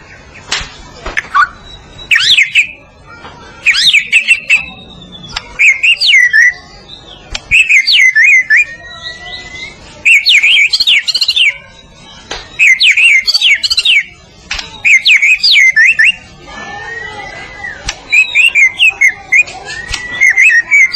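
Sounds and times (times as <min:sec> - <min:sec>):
bird singing whistled phrases: 0:01.2 - 0:02.9, 0:03.5 - 0:16.2, 0:16.8 - 0:20.9.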